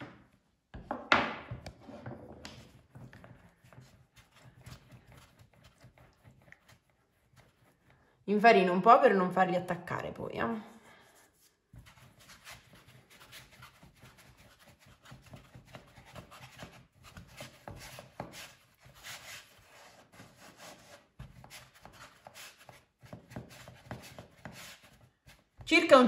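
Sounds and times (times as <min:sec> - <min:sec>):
hands rolling dough on board: 0:00.0 - 0:08.0, 0:11.6 - 0:25.7.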